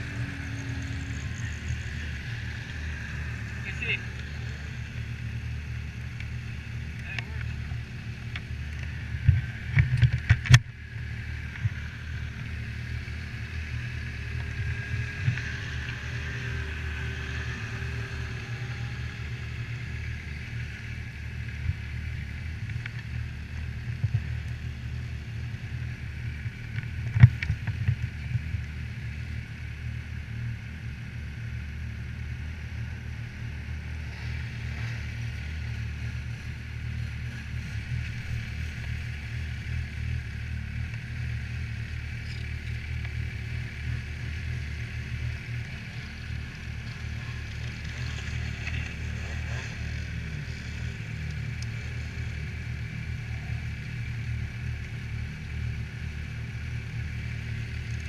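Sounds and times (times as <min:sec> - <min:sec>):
snowmobile engine idling: 0:00.0 - 0:58.0.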